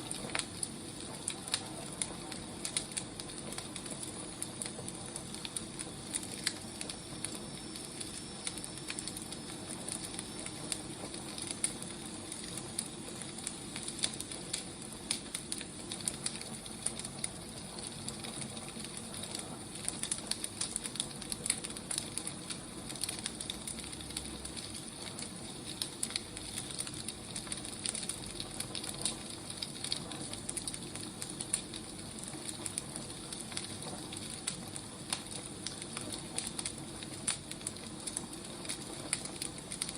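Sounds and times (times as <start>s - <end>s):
firewood burning and crackling: 0.0s - 39.9s.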